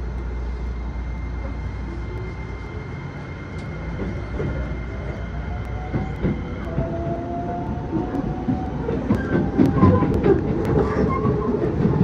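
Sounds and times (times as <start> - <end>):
train motors humming and whining: 0.0 - 12.0.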